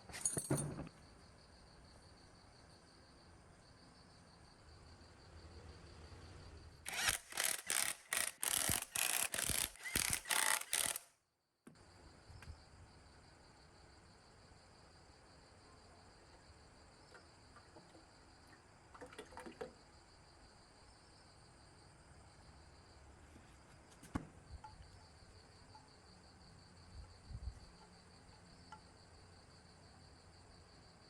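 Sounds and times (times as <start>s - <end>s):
faint insects chirring: 0.2s - 11.0s, 11.8s - 31.0s.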